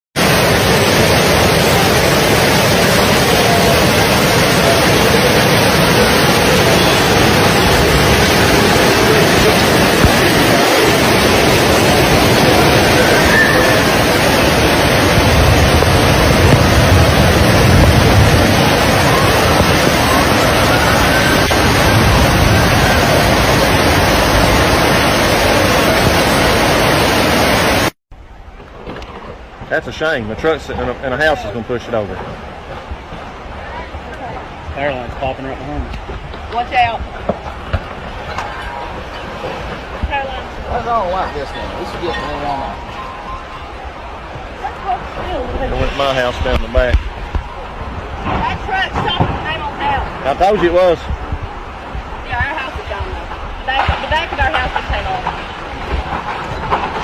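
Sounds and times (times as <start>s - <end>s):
floodwater rushing: 0.2s - 57.0s.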